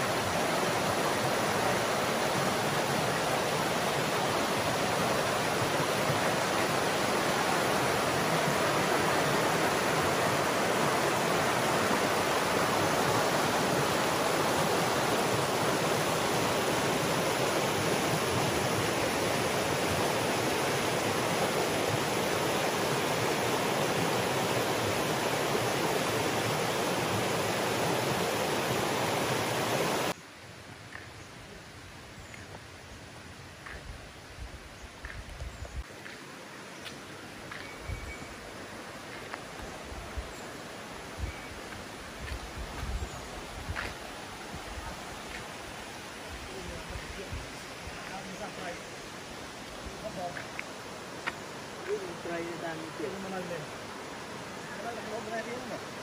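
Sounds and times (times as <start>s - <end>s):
stream rushing over stones: 0.0s - 31.0s, 35.0s - 56.0s.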